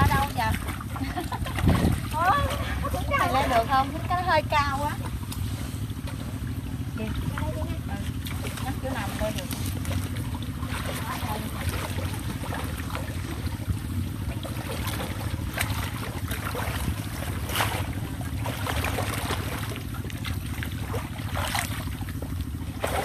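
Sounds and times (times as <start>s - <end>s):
steady low rumble: 0.0s - 23.0s
water sloshing and splashing: 0.0s - 23.0s.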